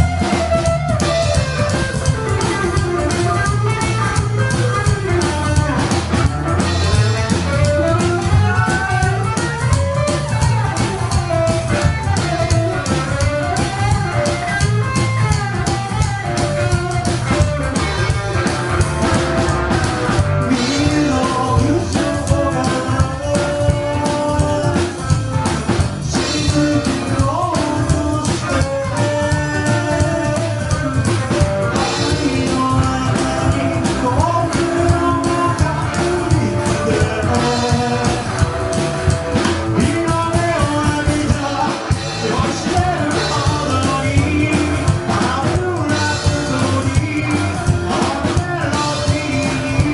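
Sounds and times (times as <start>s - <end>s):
electric guitar: 0.0s - 49.9s
rockabilly band playing live: 0.0s - 49.9s
person singing: 6.6s - 49.9s.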